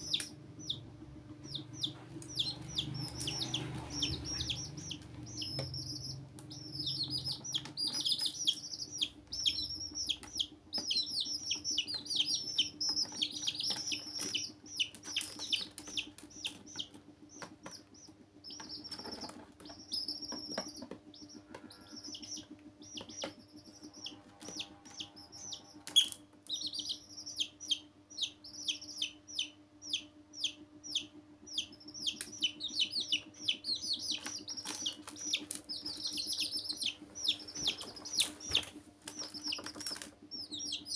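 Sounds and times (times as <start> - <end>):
chicks peeping: 0.0 - 40.9
low hum: 0.0 - 40.9.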